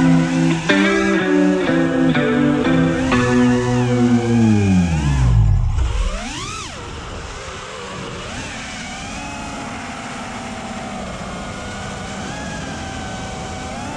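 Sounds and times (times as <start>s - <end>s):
drone motors and propellers whining: 0.0s - 13.9s.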